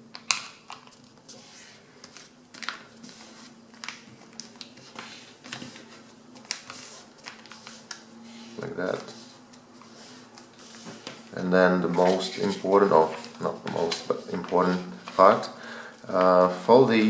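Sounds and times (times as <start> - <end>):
paper rustling and crinkling: 0.2 - 17.0.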